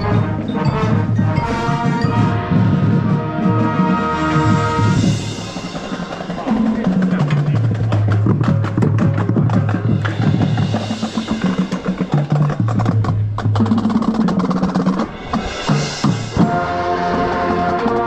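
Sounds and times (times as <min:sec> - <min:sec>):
drum kit and percussion strikes: 0:00.0 - 0:03.6, 0:04.2 - 0:13.8, 0:15.0 - 0:16.7
marching band playing: 0:00.0 - 0:18.0.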